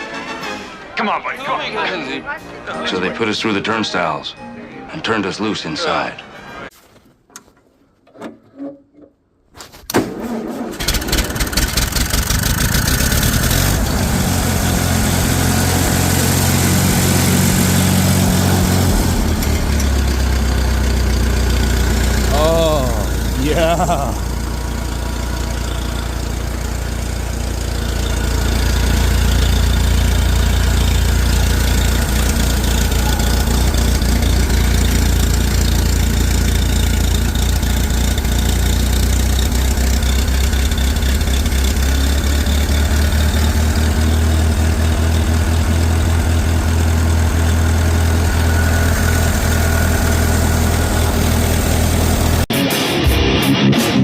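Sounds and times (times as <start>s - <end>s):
engine running: 10.0s - 54.0s.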